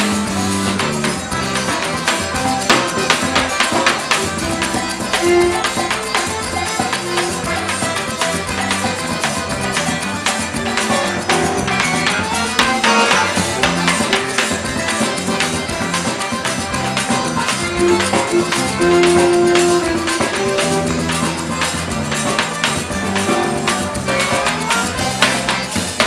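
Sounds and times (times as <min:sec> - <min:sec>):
accordion playing: 0:00.0 - 0:26.0
quick percussion beat: 0:00.0 - 0:26.0.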